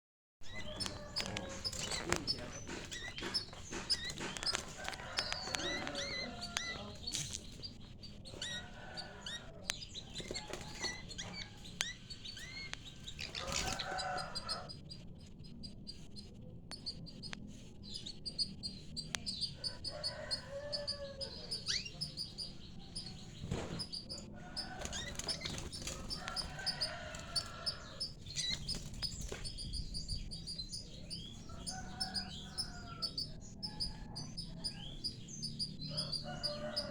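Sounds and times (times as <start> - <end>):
canaries chirping: 0.4 - 36.9.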